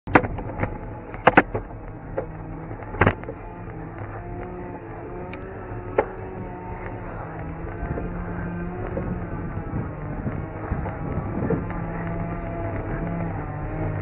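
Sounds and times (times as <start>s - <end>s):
bicycle tyre road rumble: 0.1s - 14.0s
bike knocking and rattling: 0.1s - 14.0s.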